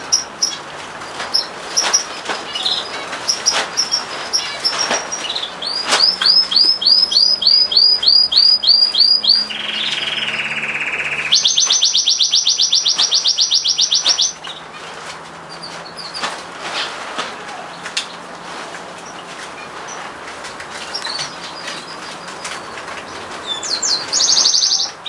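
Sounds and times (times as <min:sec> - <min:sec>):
canary singing: 0:00.0 - 0:16.4, 0:20.7 - 0:25.0.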